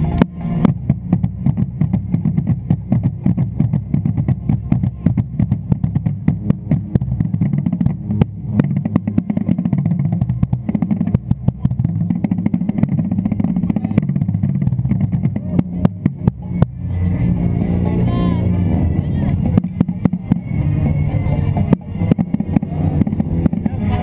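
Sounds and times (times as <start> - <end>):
bass drums playing fast: 0.0 - 24.0.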